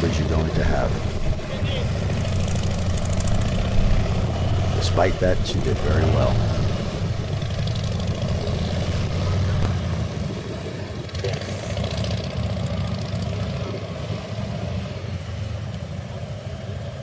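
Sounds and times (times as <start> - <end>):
motorcycle engines at low speed: 0.0 - 17.0.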